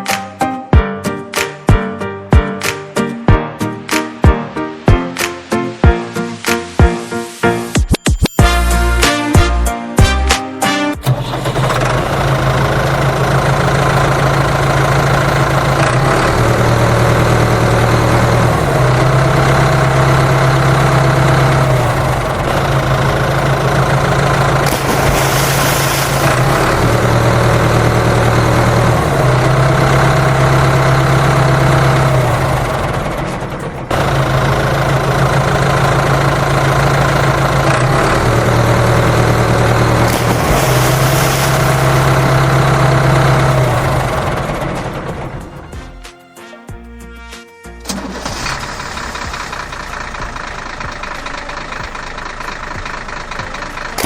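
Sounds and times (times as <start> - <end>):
truck engine droning: 10.5 - 54.0.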